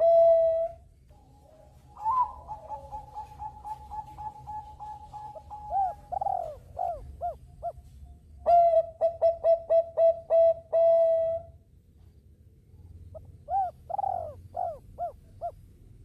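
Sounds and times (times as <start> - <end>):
dove cooing: 0.0 - 11.5, 13.1 - 15.9.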